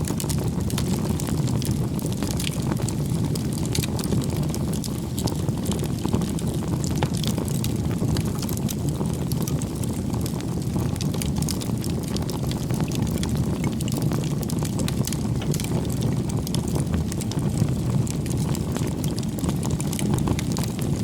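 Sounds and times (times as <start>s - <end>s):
campfire flames rumbling: 0.0s - 21.0s
wood crackling and popping: 0.0s - 21.0s.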